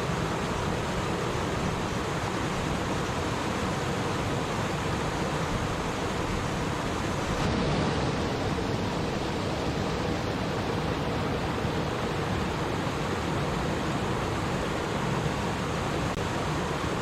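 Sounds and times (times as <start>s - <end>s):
stream water babbling: 0.0s - 17.0s.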